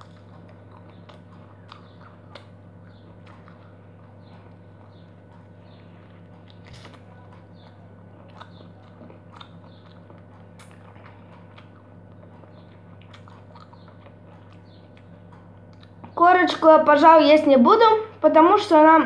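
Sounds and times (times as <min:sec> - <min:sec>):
person biting and chewing lemon: 0:00.0 - 0:16.2
low hum: 0:00.0 - 0:19.0.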